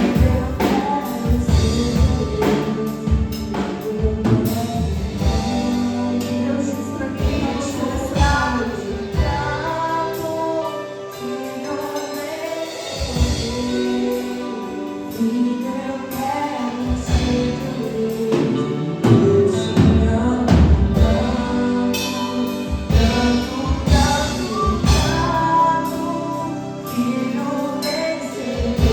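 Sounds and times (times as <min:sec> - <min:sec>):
band with drums: 0:00.0 - 0:28.9
group singing gospel: 0:00.0 - 0:28.9.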